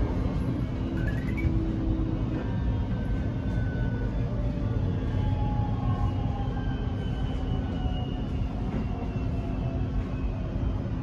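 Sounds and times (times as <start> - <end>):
faint high whining tones: 0.6 - 10.9.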